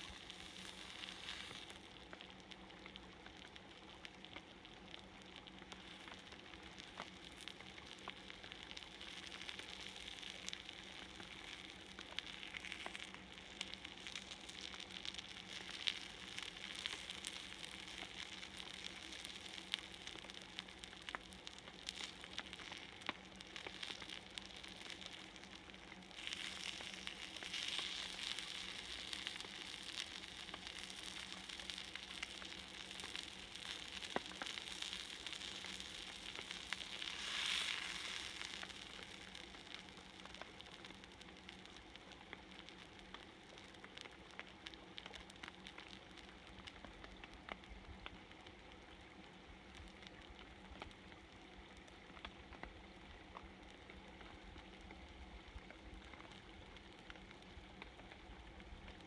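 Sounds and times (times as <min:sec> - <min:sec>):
fish sizzling on a griddle: 0:00.0 - 0:59.0.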